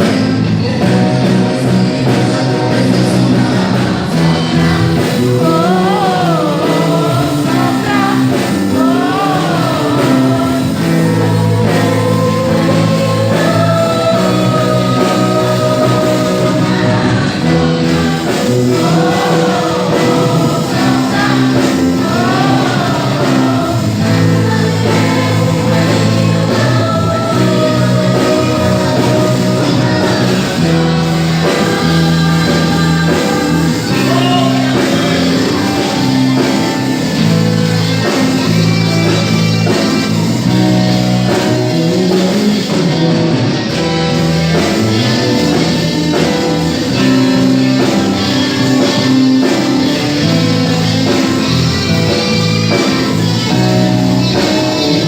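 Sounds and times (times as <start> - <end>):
worship song with singing: 0.0 - 55.0.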